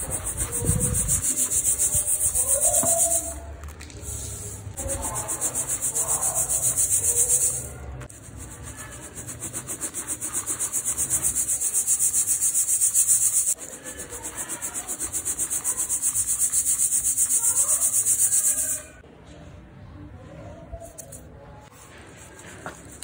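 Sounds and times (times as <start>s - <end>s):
powder hissing through wire mesh: 0.0s - 19.0s.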